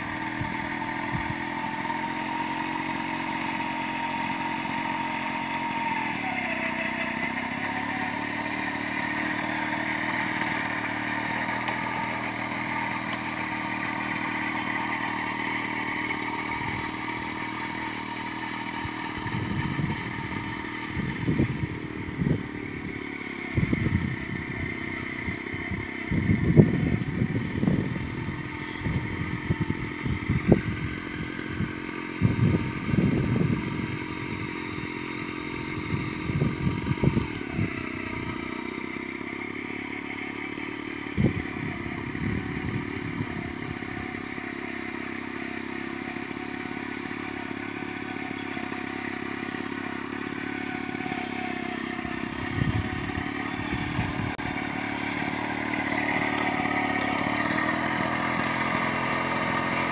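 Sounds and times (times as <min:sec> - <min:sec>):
tines knocking and clattering: 0:00.0 - 0:21.1, 0:27.9 - 0:59.9
small tiller engine running: 0:00.0 - 0:59.9.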